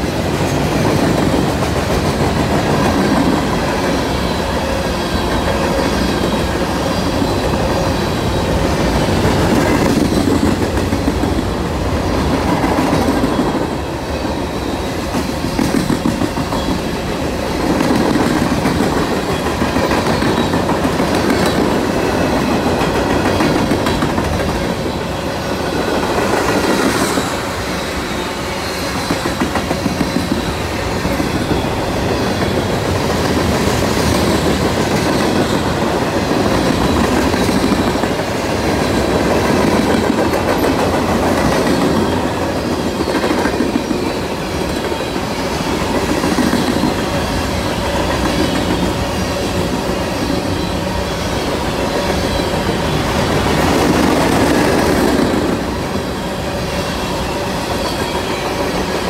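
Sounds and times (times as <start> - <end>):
wheels clickety-clack over rail joints: 0.0 - 13.8, 14.6 - 27.8, 28.6 - 50.4, 51.4 - 59.0
steel wheels rumbling on rail: 0.0 - 59.0.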